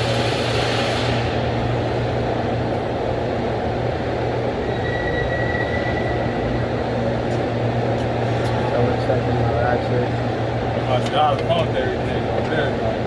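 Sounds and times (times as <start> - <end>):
low mechanical drone: 0.0 - 13.0.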